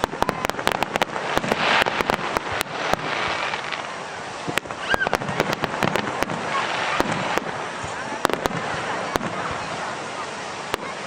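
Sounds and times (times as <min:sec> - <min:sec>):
fireworks crackling: 0:00.0 - 0:11.0
fireworks hiss: 0:00.0 - 0:11.0.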